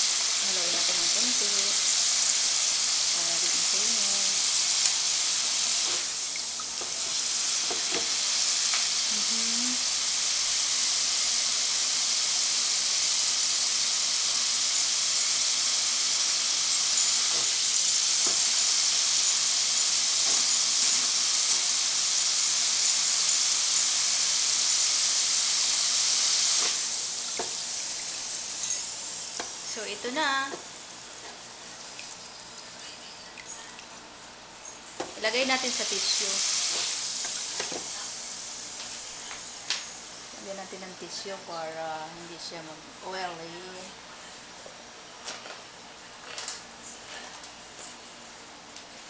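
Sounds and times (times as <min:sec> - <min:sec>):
fries sizzling in deep fryer: 0:00.0 - 0:44.4.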